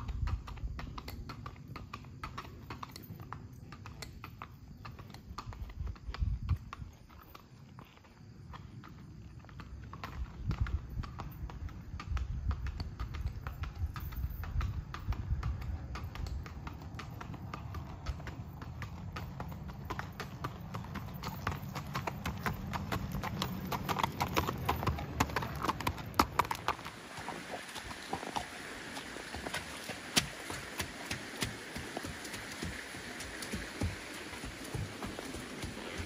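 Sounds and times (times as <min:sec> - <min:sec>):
hooves clopping on pavement: 0:00.0 - 0:36.0.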